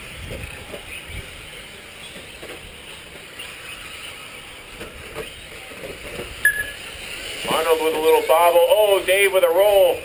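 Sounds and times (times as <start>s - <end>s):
small rc truck engines buzzing: 0.0s - 10.0s.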